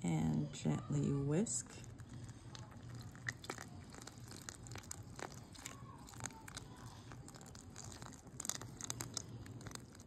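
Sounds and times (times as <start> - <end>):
whisk stirring batter in a bowl: 0.8 - 10.0.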